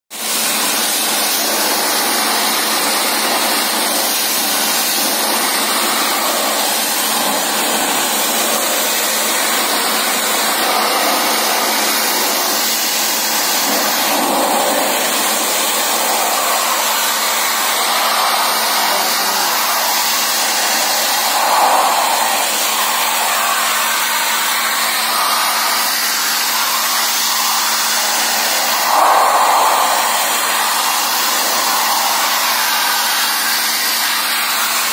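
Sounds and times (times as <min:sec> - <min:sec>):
pressure washer spraying water: 0:00.2 - 0:34.9.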